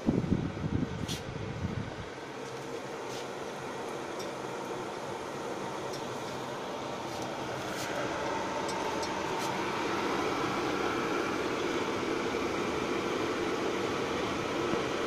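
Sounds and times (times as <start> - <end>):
stove fan and fire rushing: 0.0 - 15.0.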